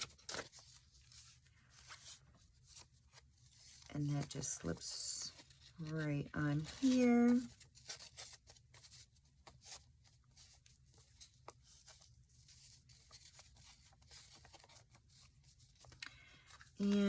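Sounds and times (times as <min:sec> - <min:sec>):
paper and card rustling: 0:00.0 - 0:17.0.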